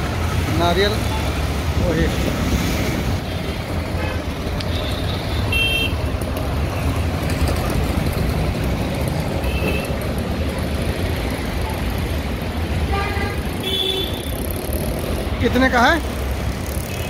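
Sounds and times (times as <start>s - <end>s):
auto-rickshaw passing: 0.0s - 17.0s
cars passing close by: 0.0s - 17.0s
motorbikes passing: 0.0s - 17.0s.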